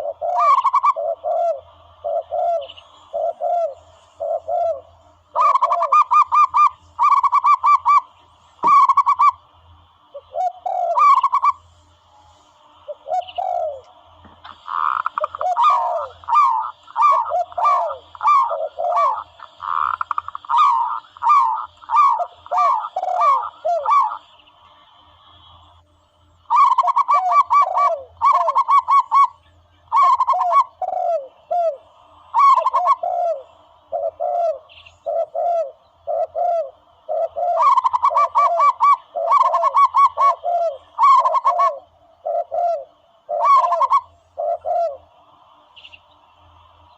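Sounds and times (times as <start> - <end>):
dove cooing calls: 0.0 - 25.5, 26.4 - 46.7.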